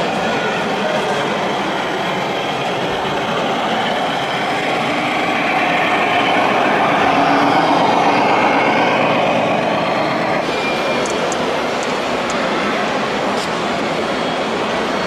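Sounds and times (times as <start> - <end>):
hum of busy exhibition hall: 0.0 - 15.0.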